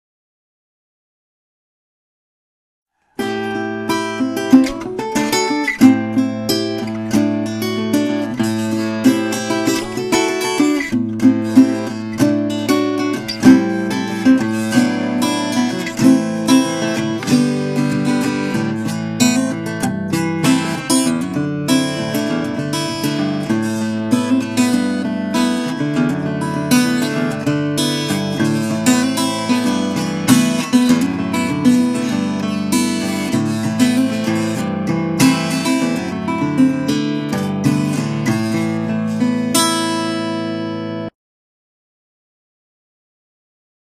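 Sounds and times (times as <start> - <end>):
acoustic guitar playing: 3.0 - 41.2.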